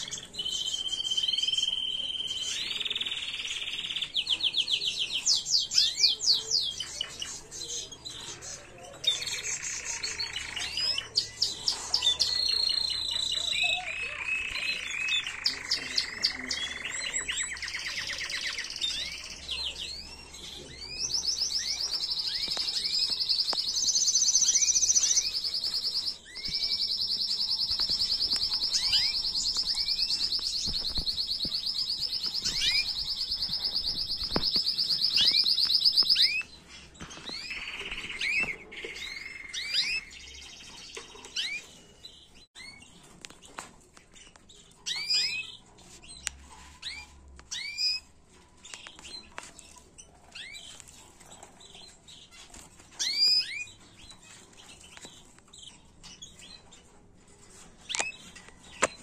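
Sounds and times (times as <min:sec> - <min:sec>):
canary trilling song: 0:00.0 - 0:59.0.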